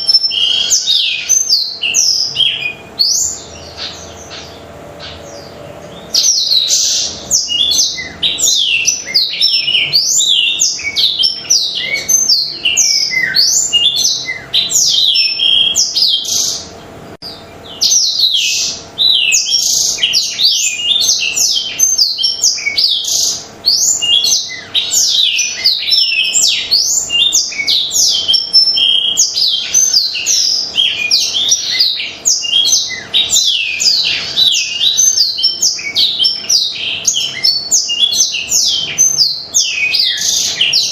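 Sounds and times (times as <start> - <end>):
bird song with fast trills: 0.0 - 40.9
faint steady hum: 0.0 - 40.9.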